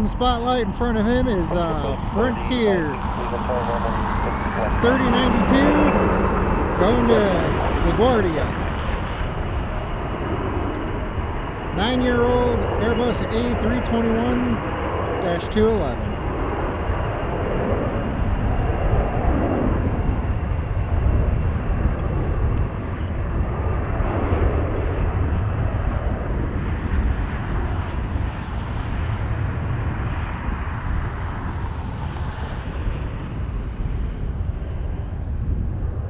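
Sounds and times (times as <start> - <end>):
faint engine whine: 0.0 - 36.0
jet engines roaring: 0.0 - 36.0
wind buffeting microphone: 0.0 - 36.0.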